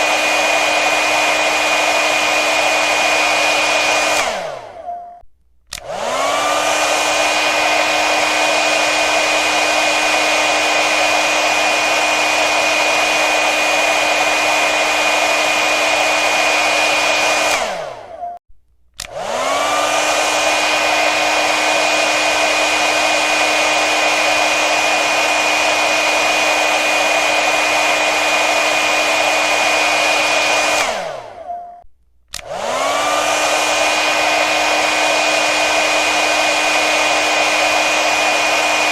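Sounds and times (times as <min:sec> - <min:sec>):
hair dryer blowing: 0:00.0 - 0:04.9, 0:05.7 - 0:18.2, 0:19.0 - 0:31.6, 0:32.3 - 0:38.9.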